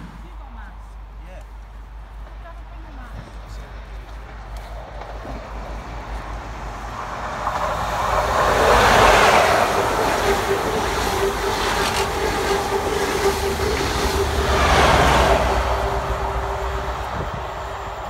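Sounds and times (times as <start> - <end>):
diesel train engine passing: 0.0 - 18.0
wheels rolling on rails: 3.1 - 18.0.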